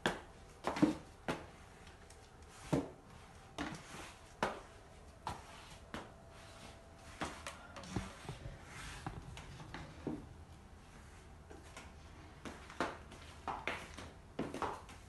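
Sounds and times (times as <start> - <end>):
shuffling footsteps: 0.6 - 15.0.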